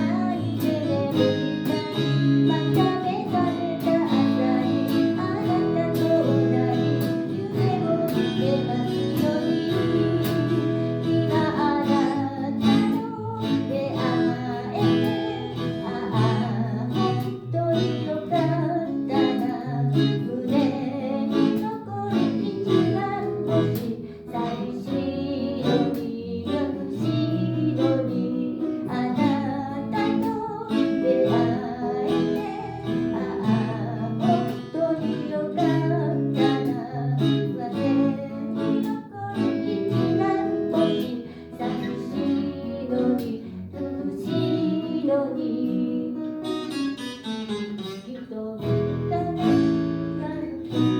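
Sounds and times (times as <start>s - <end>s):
person singing: 0.0s - 50.9s
strummed acoustic guitar: 0.0s - 50.9s.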